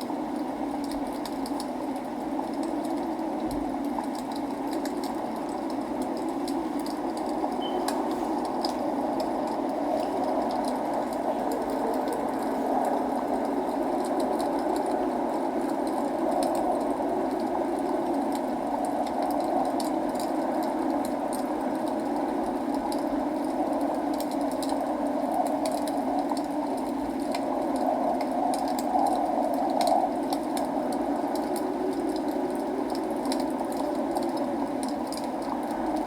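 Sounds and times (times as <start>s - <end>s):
rain rushing: 0.0s - 36.0s
log fire crackling: 0.1s - 36.0s.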